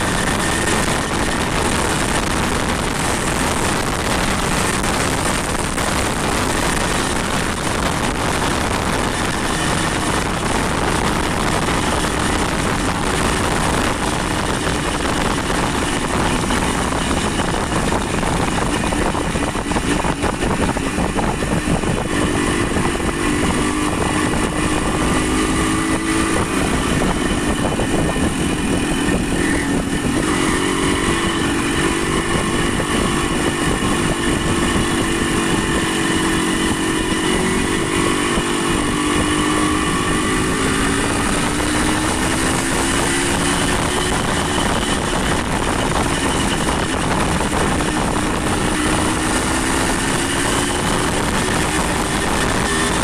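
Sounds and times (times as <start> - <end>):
loud rushing noise: 0.0 - 53.0
vehicle engine running: 0.0 - 53.0.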